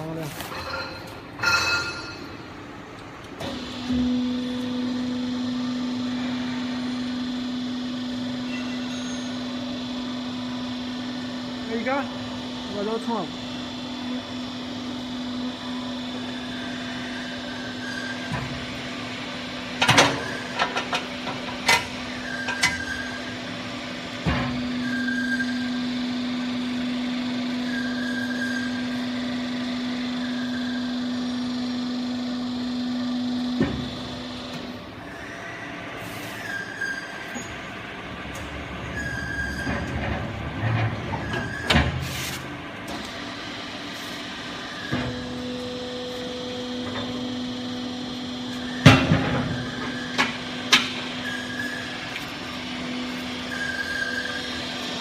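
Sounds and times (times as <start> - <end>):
hydraulic press motor hum: 1.0 - 55.0.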